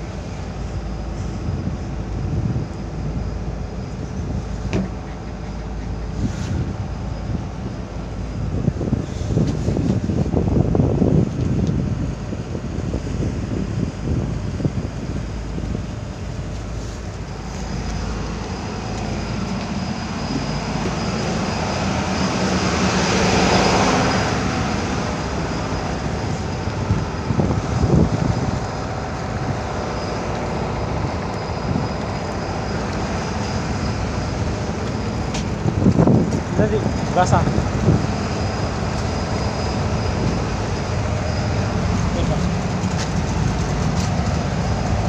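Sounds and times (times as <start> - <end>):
boat engines droning: 0.0 - 45.0
water and wind noise: 0.0 - 45.0.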